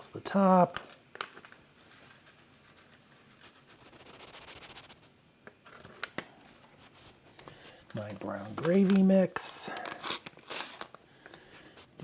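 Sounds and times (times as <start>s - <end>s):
seasoning packet rustling: 0.3s - 12.0s.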